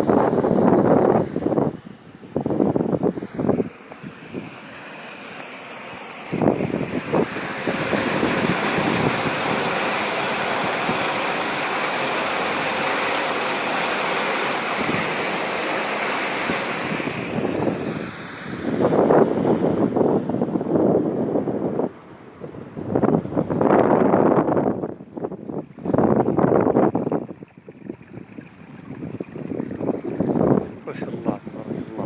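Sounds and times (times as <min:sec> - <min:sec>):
water rushing: 0:00.0 - 0:32.0.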